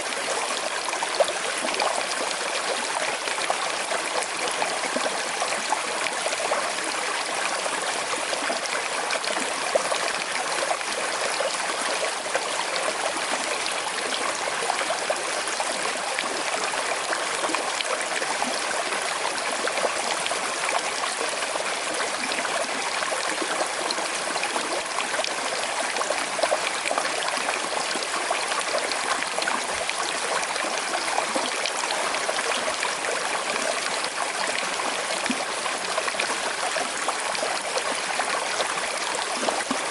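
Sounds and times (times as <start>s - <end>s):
river water rushing and trickling: 0.0s - 39.9s.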